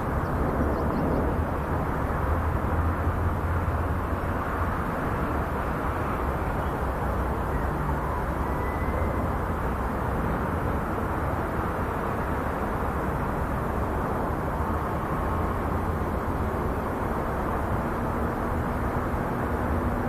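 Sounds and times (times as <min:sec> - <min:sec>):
distant tractor engine drone: 0:00.0 - 0:20.0.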